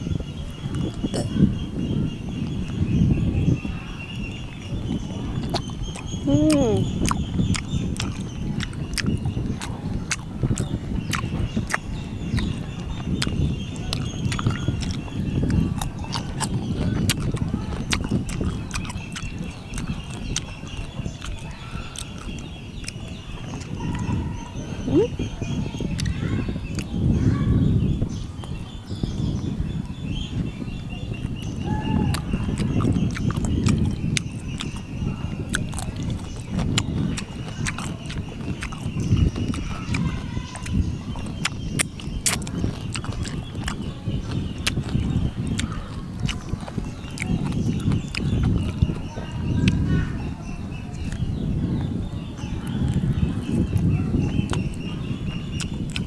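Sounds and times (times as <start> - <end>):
mouth smacks: 0.7 - 1.6, 4.5 - 27.0, 31.1 - 51.9, 52.6 - 56.0
crunchy chewing: 3.8 - 27.1, 29.9 - 56.0.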